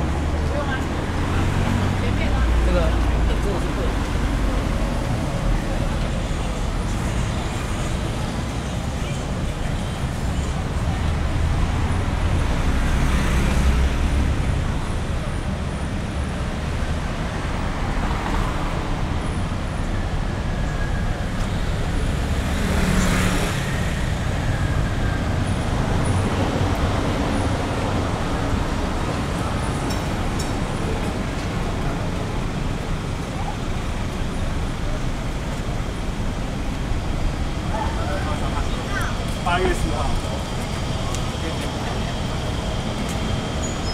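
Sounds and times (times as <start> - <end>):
rumble of traffic: 0.0 - 43.9.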